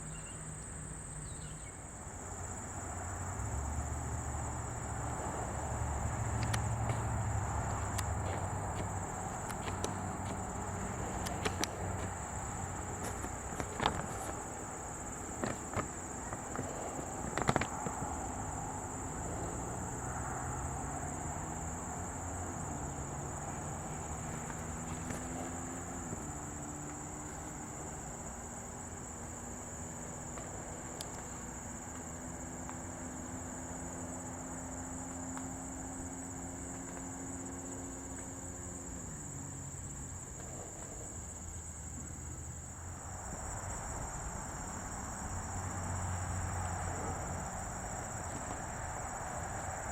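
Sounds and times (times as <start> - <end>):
insects trilling: 0.0 - 49.9
low engine hum: 0.0 - 49.9.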